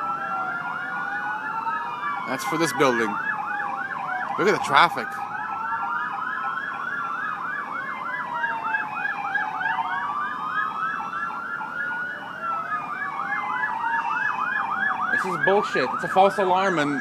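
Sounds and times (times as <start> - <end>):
fire truck siren yelping: 0.0 - 17.0
fire truck sirens wailing: 0.0 - 17.0.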